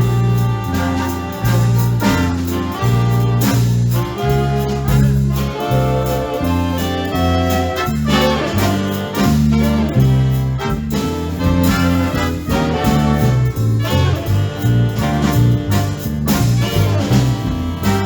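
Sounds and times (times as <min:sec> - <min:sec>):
big band playing swing: 0:00.0 - 0:18.0.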